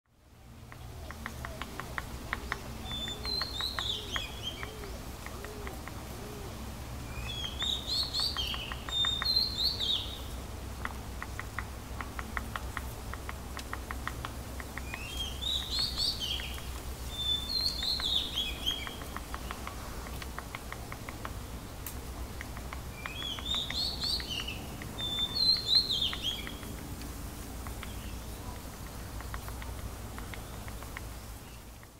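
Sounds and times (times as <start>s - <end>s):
woodpecker tapping on wood: 0.5s - 6.5s, 7.2s - 31.9s.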